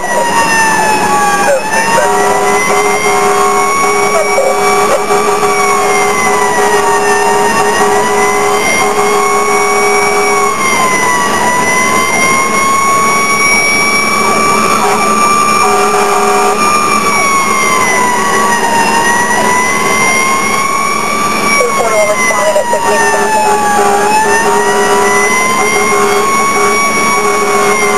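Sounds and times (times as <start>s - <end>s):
fire engine siren wailing: 0.0s - 27.9s.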